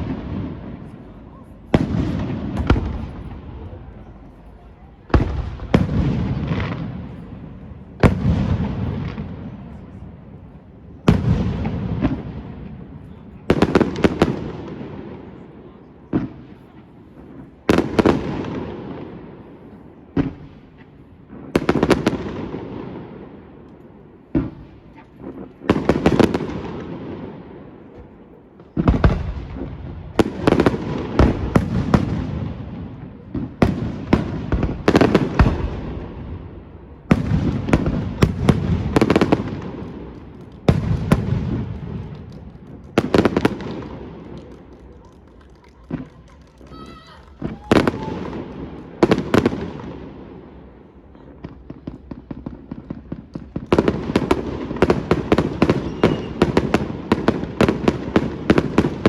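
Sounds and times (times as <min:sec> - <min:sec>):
fireworks bursting with rumbling echo: 0:00.0 - 0:59.0.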